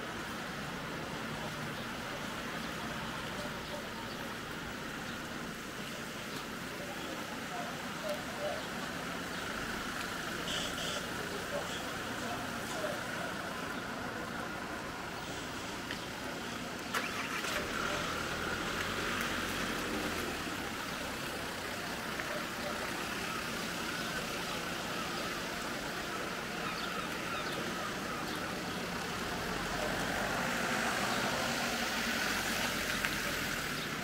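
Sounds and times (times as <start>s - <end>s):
background noise: 0.0s - 34.0s
distant voices: 0.0s - 34.0s.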